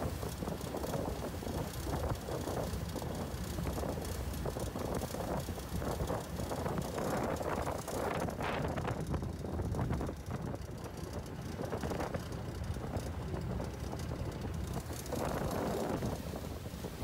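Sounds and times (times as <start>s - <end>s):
fishing boat engine rumble: 0.0s - 17.0s
wind buffeting microphone: 0.0s - 17.0s.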